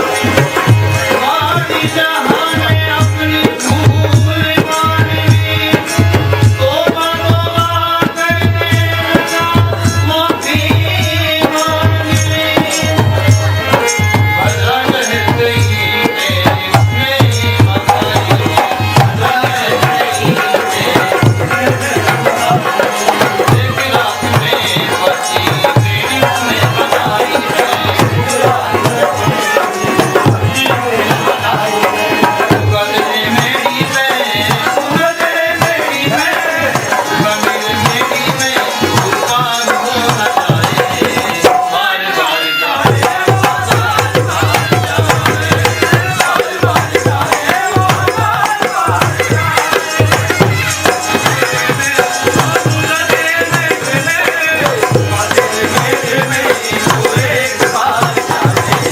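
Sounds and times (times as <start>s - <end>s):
devotional music: 0.0s - 58.9s
tabla and drum rhythm: 0.0s - 58.9s.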